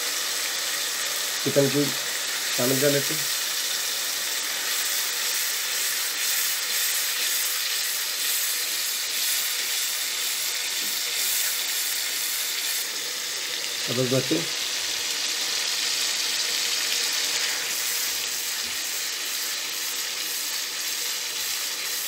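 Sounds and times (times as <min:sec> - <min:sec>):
masala sizzling in a pan: 0:00.0 - 0:22.0.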